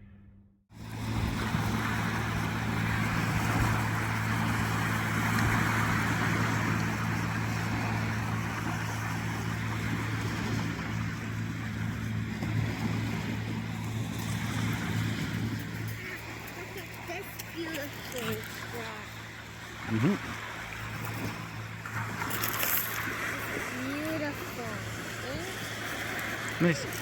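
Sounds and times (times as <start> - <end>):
motor humming: 0.8 - 27.0.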